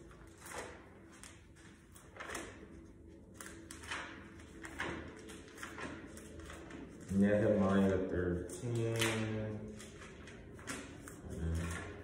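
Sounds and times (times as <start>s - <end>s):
pages being turned: 0.0s - 12.0s.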